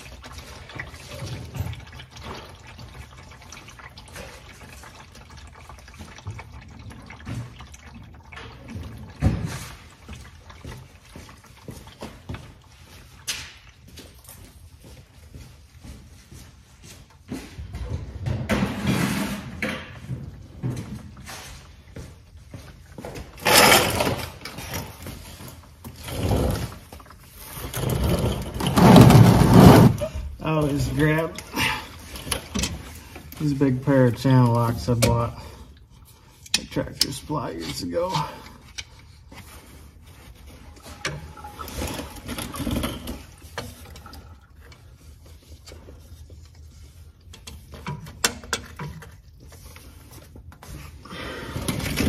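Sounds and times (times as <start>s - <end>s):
rustling and scraping handling noise: 8.7s - 52.0s.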